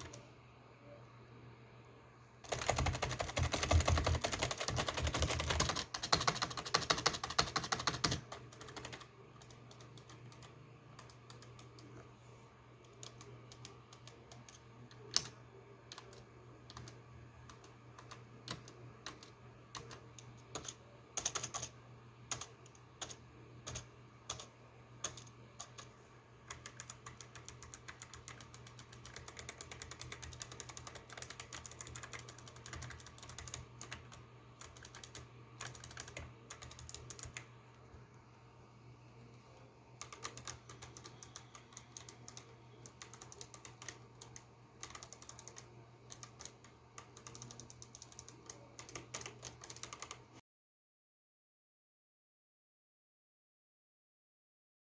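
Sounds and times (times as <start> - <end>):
keyboard typing: 2.4 - 12.1, 12.9 - 37.6, 40.0 - 50.3.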